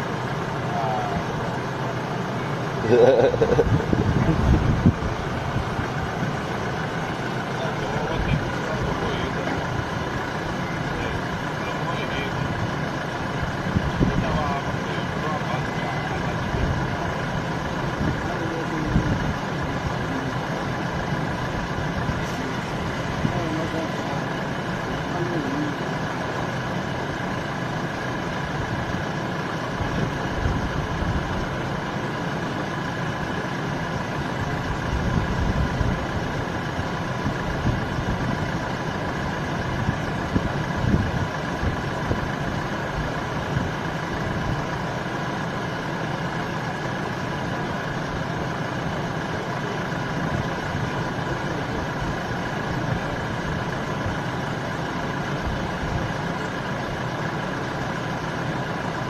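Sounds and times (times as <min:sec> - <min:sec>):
vehicle engines idling: 0:00.0 - 0:59.0.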